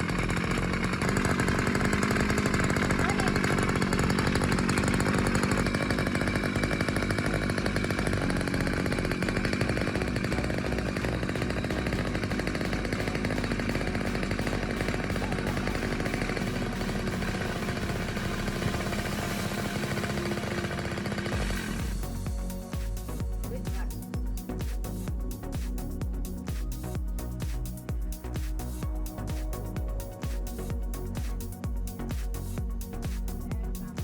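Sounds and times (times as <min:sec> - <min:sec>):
small two-stroke engine running: 0:00.0 - 0:34.0.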